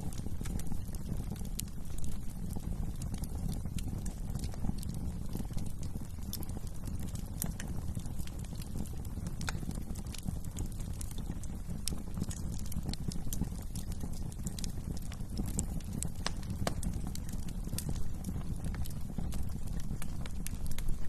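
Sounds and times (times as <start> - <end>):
low rumble of burning fire: 0.0 - 21.0
wood fire crackling: 0.0 - 21.0.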